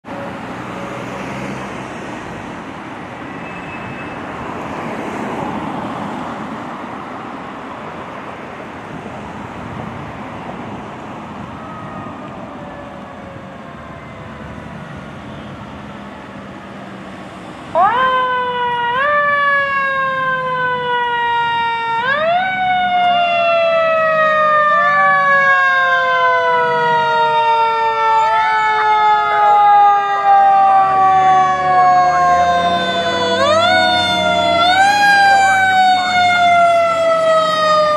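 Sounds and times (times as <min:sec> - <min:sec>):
fire engine siren: 0:00.0 - 0:07.8, 0:09.0 - 0:37.9
road traffic passing: 0:00.0 - 0:37.9.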